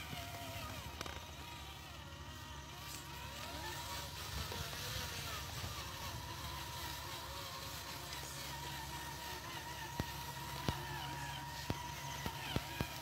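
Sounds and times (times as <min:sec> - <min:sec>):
toy truck motor whirring: 0:00.0 - 0:13.0.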